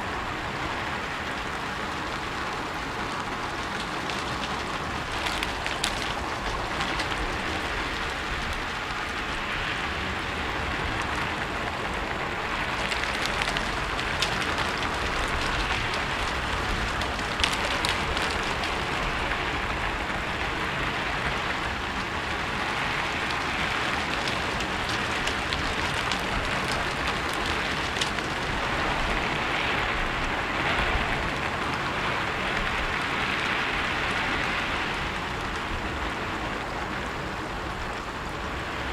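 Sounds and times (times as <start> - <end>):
rain on a rooftop: 0.0 - 38.9.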